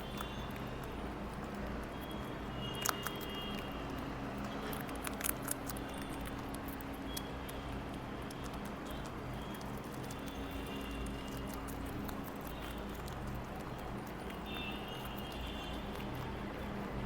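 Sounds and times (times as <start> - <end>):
rabbits chewing crunchily: 0.0 - 17.0.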